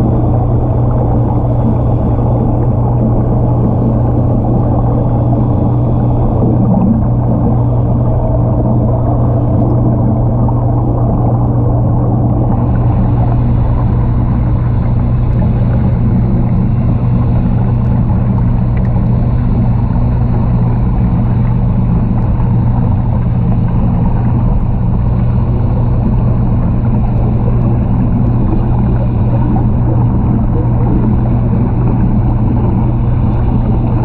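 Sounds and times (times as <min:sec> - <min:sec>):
dense rumble: 0:00.0 - 0:34.0
low mechanical hum: 0:00.0 - 0:34.0.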